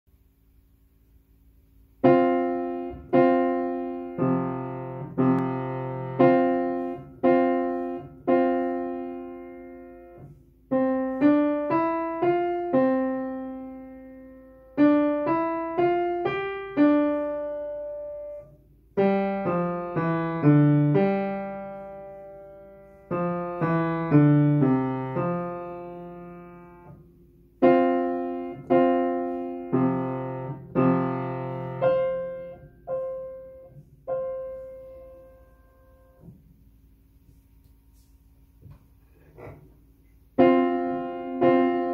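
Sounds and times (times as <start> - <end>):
slow piano notes and chords: 1.8 - 41.9.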